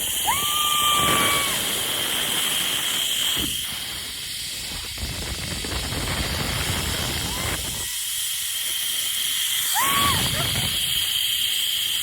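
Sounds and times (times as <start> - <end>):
zipline trolley hissing on cable: 0.0 - 12.0.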